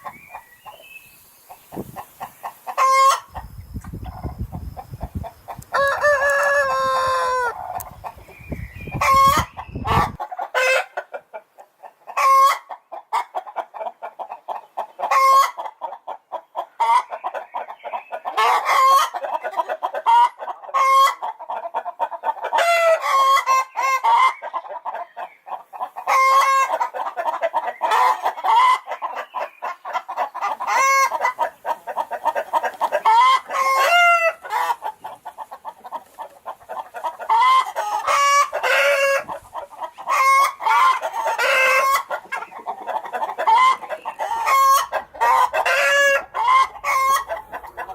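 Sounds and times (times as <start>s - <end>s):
chickens clucking and cackling: 0.0s - 47.9s.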